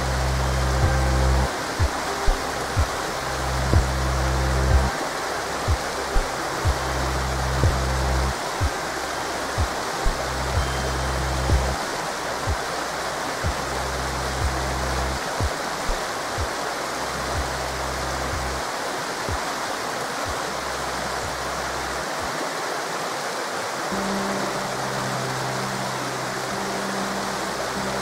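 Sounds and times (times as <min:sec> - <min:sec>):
low bass tones: 0:00.0 - 0:18.7, 0:20.3 - 0:22.4, 0:24.0 - 0:28.0
river rushing: 0:00.0 - 0:28.0
soft background music: 0:00.0 - 0:28.0.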